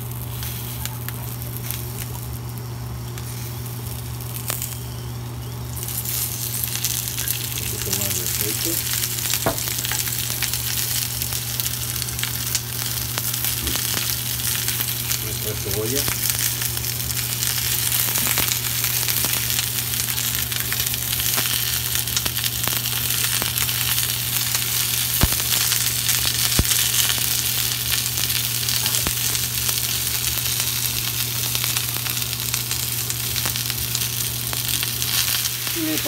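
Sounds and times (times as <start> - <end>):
vegetables sizzling in a frying pan: 0.0 - 36.0.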